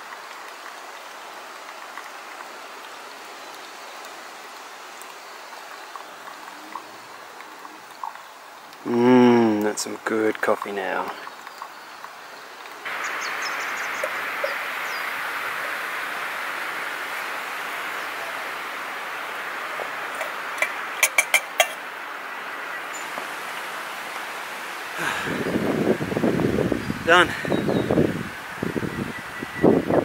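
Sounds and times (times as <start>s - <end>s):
steady rushing hiss: 0.0s - 30.0s.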